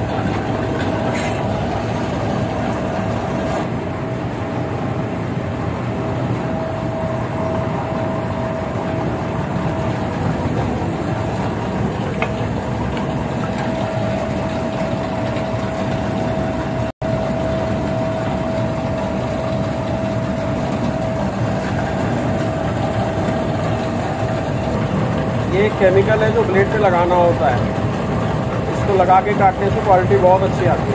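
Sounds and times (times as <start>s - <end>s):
mid-pitched machine whine: 0.0s - 30.9s.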